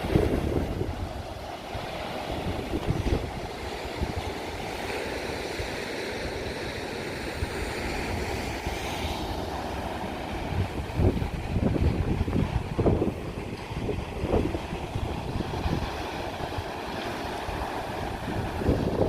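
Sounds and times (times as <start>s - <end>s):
sea surf washing against rocks: 0.0s - 19.0s
wind buffeting microphone: 0.0s - 19.0s.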